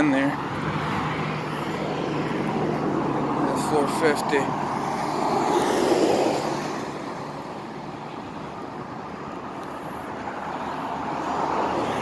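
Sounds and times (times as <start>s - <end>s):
steady traffic hum: 0.0s - 12.0s
vehicle passing: 0.0s - 12.0s.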